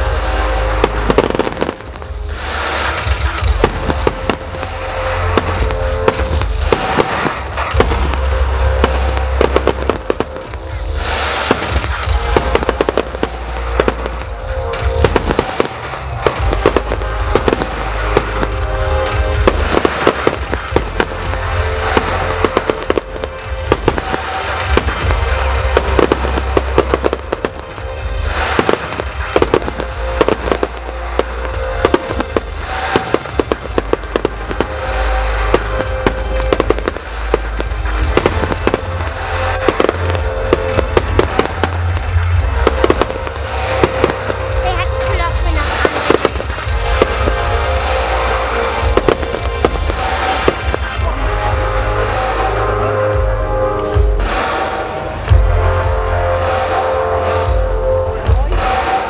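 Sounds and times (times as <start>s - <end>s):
fireworks bangs and crackling: 0.0s - 59.0s
music with held tones: 0.0s - 59.0s.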